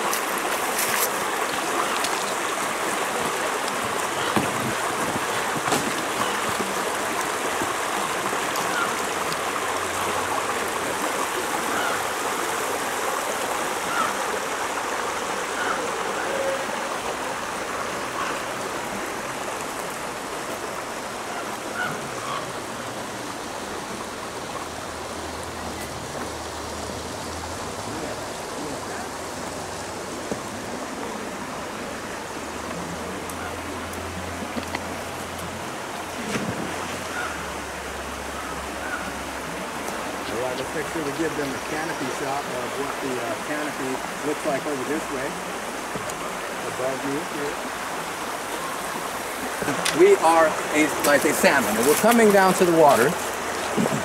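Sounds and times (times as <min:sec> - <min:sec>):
creek running over stones: 0:00.0 - 0:54.0.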